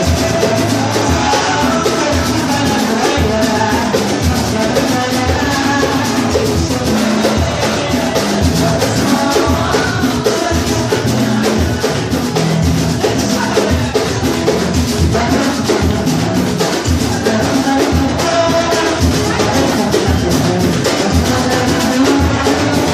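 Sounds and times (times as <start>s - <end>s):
percussion ensemble drumming: 0.0s - 22.9s.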